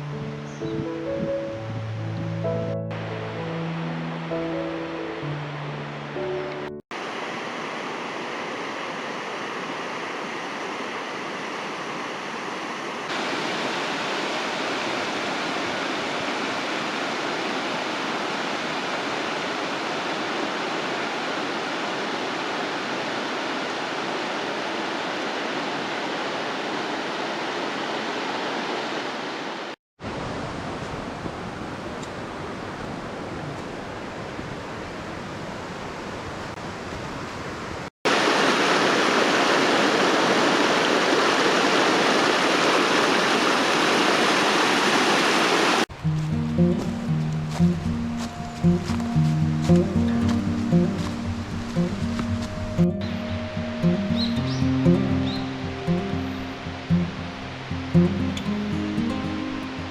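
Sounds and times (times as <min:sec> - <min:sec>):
mountain stream rushing: 0:01.5 - 0:59.9.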